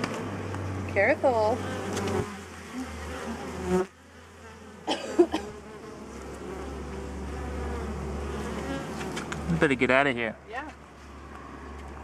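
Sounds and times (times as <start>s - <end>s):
bees buzzing: 0.0s - 10.1s.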